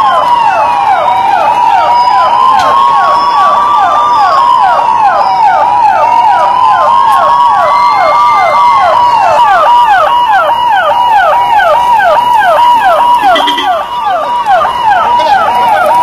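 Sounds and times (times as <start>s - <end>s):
fast falling siren yelp: 0.0s - 16.0s
siren wail: 0.0s - 16.0s.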